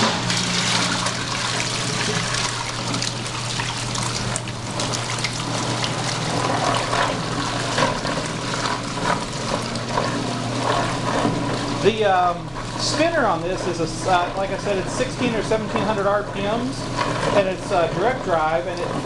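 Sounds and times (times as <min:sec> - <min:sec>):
washing machine motor hum: 0:00.0 - 0:19.0
water trickling and splashing: 0:00.2 - 0:19.0.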